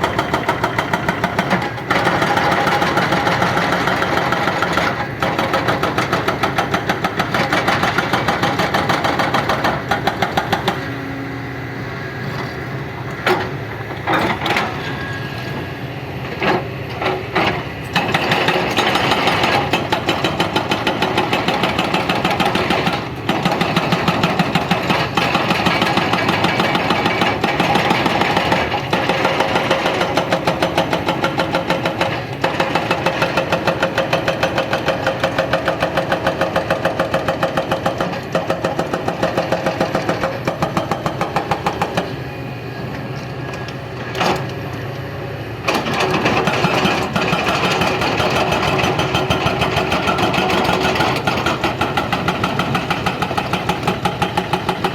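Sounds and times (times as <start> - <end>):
excavator pounding: 0.0 - 42.2, 45.6 - 54.9.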